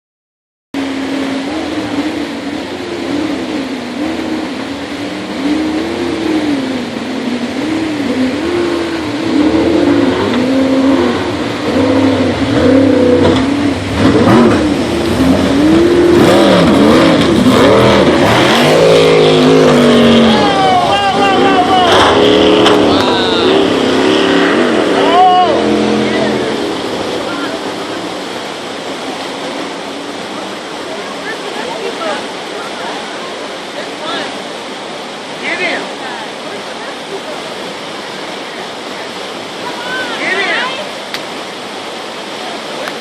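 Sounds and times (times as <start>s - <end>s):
jet boat engine revving: 0.8s - 43.0s.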